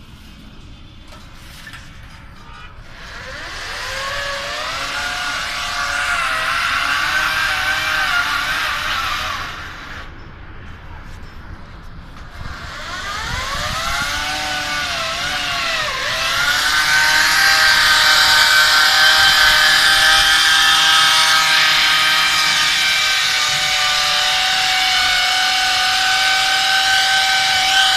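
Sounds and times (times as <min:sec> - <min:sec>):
gritty cutting noise: 0:02.0 - 0:10.2, 0:11.0 - 0:27.9
core drill motor whining: 0:02.9 - 0:10.1, 0:12.3 - 0:27.9.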